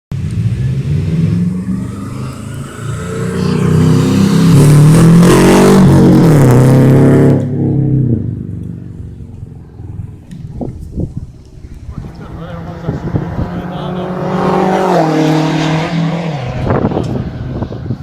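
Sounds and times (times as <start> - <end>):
car engine revving: 0.1 - 18.0.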